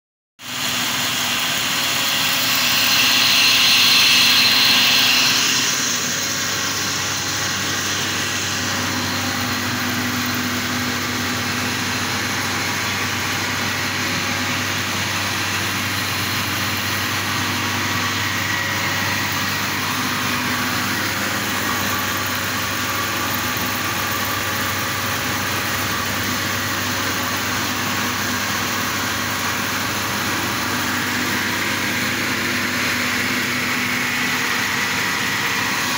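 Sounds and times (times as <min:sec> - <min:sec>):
flour mill whirring: 0:00.4 - 0:35.9.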